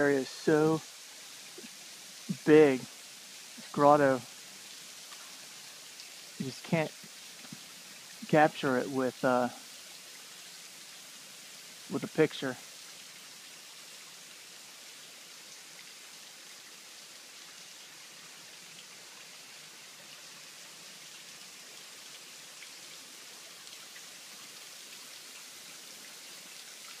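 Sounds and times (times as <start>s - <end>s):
faint drip-like ticks: 0.0s - 27.0s
waterfall hissing and splashing: 0.0s - 27.0s.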